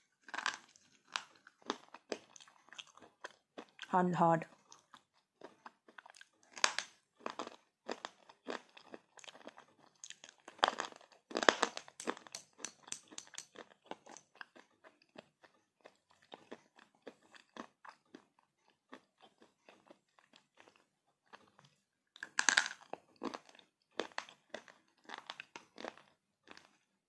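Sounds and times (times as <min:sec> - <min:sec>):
pencils being chewed with crunches: 0:00.0 - 0:27.0.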